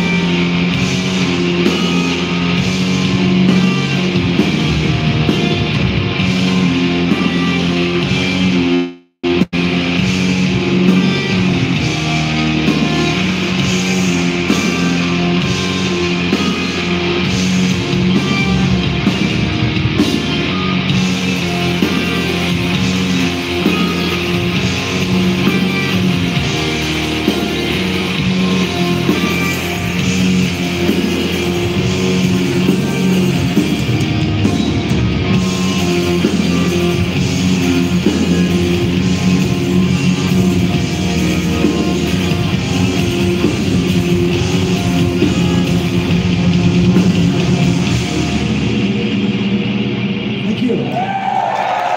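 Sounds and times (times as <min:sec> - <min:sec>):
distorted electric guitars: 0:00.0 - 0:51.9
drums: 0:00.0 - 0:51.9.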